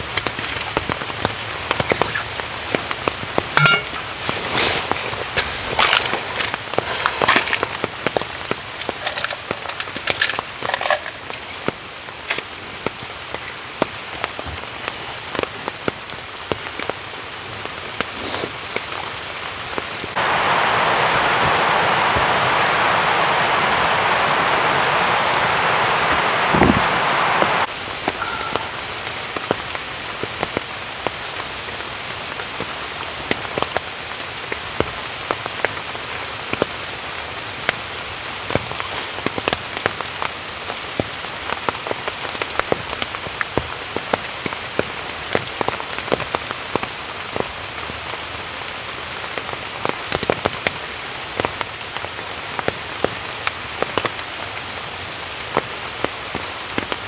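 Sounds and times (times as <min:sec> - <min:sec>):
raindrops striking a surface: 0:00.0 - 0:57.0
steady rain hiss: 0:00.0 - 0:57.0.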